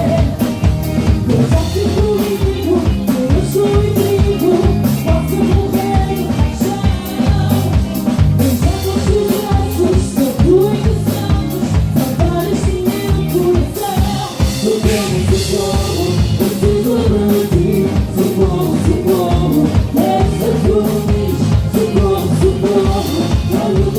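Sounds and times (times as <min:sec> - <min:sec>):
live band playing: 0:00.0 - 0:23.9.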